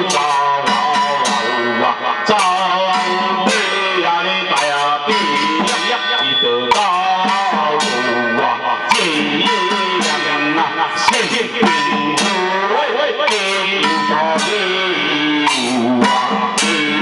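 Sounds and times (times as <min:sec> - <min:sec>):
chant sung over microphone: 0:00.0 - 0:17.0
gong cymbals and drum: 0:00.0 - 0:17.0.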